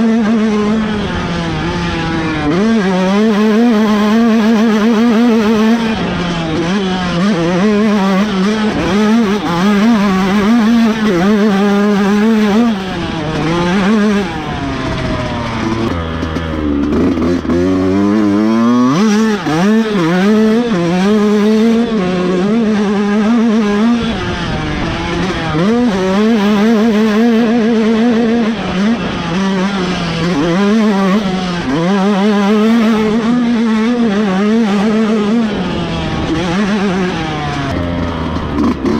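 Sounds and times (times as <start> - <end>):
two-stroke dirt bike engine revving: 0.0 - 38.9.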